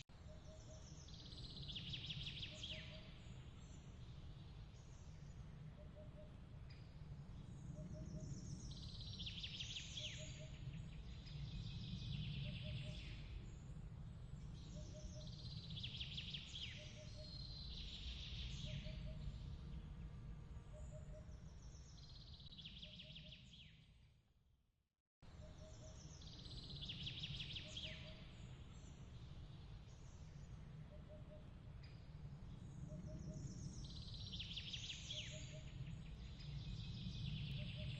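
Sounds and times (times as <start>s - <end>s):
bird trilling song: 0.0s - 3.9s, 7.5s - 13.7s, 14.4s - 19.5s, 20.7s - 23.8s, 25.3s - 37.9s
low steady rumble: 2.9s - 22.0s, 25.2s - 37.9s.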